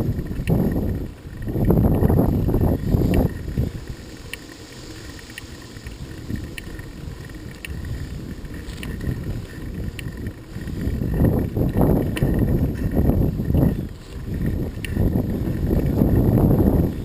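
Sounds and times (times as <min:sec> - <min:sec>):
faint ticks: 0:00.0 - 0:16.3
low rumble: 0:00.0 - 0:17.0
wind buffeting microphone: 0:00.0 - 0:17.0.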